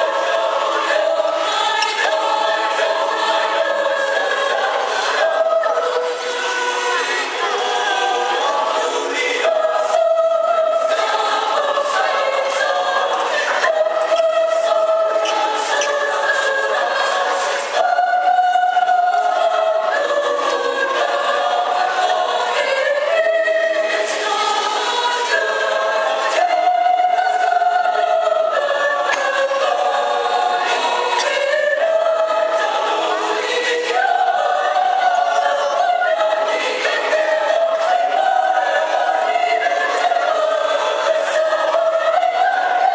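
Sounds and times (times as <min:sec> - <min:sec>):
mixed choir singing: 0:00.0 - 0:42.9.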